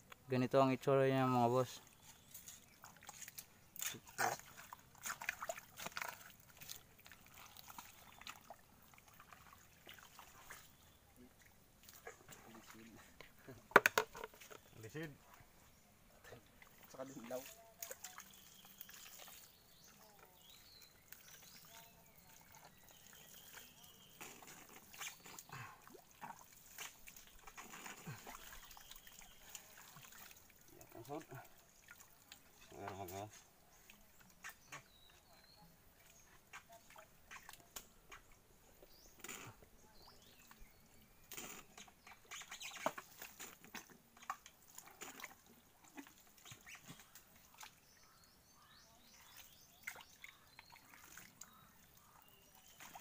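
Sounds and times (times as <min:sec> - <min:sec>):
mud squelching and splashing: 0:01.8 - 0:14.7, 0:16.4 - 0:38.4, 0:39.1 - 0:53.0.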